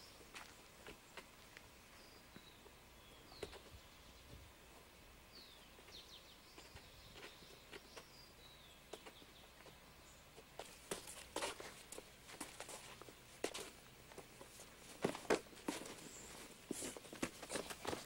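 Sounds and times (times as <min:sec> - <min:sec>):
small birds chirping faintly: 0:00.0 - 0:18.0.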